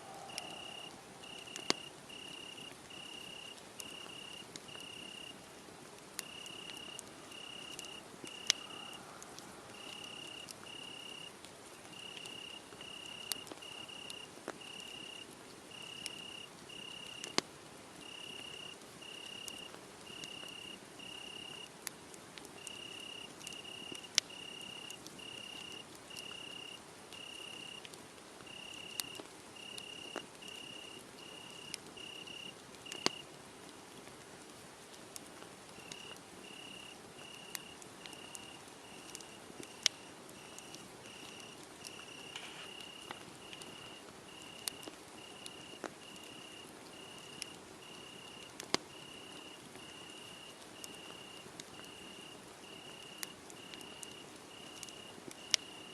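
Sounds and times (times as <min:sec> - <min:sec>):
crickets chirping: 0:00.0 - 0:05.4, 0:06.2 - 0:11.3, 0:11.9 - 0:17.3, 0:18.0 - 0:21.7, 0:22.6 - 0:27.8, 0:28.5 - 0:33.2, 0:35.8 - 0:55.9
wood fire crackling: 0:00.0 - 0:55.9.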